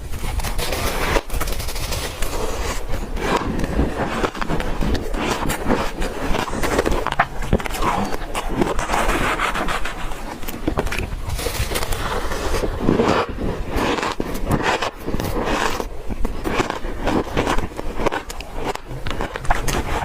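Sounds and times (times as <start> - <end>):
ice being crunched and chewed: 0.0 - 20.0.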